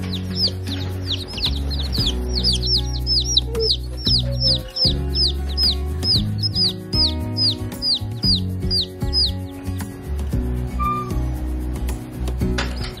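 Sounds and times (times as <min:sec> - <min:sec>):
baby chicks peeping: 0:00.0 - 0:11.4, 0:12.3 - 0:13.0
background music: 0:00.0 - 0:13.0.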